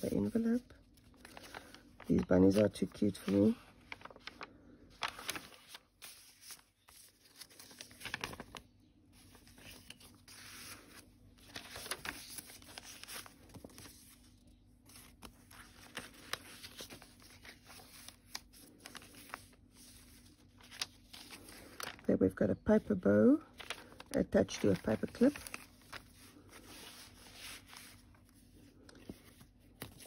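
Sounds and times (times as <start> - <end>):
paper pages rustling: 0.0 - 22.1, 22.8 - 30.0.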